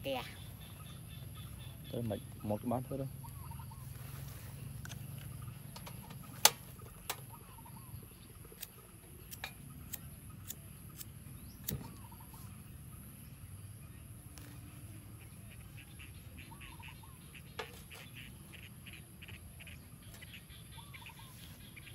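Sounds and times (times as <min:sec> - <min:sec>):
faint bird chirps: 0:00.0 - 0:21.9.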